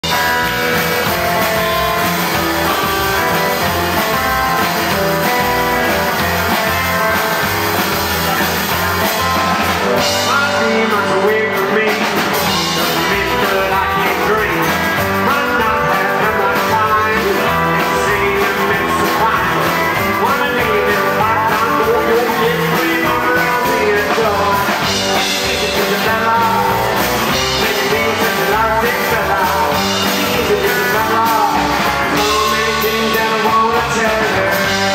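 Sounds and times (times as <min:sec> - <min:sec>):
rockabilly band playing live: 0:00.0 - 0:34.9.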